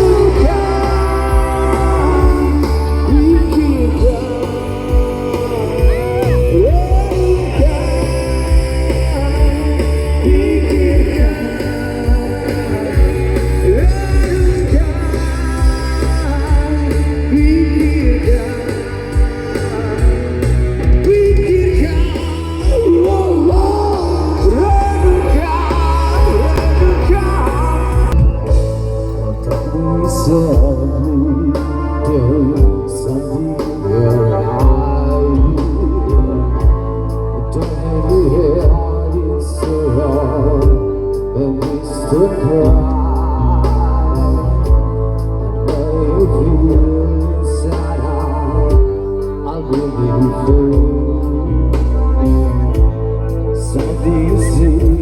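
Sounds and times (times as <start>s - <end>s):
heavy bass: 0.0s - 55.0s
live pop-rock band playing: 0.0s - 55.0s
person singing: 0.0s - 55.0s.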